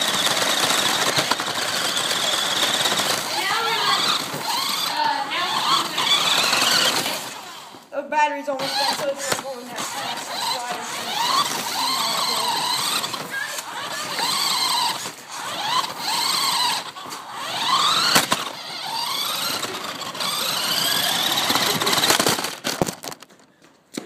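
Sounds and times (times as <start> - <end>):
electric motor whining in bursts: 0.0 - 7.9, 8.5 - 22.8.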